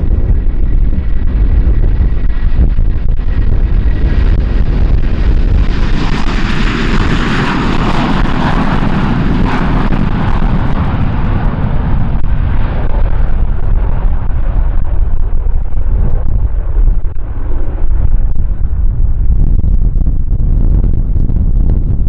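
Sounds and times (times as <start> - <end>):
jet engines at takeoff: 0.0 - 22.0
wind buffeting microphone: 0.0 - 22.0.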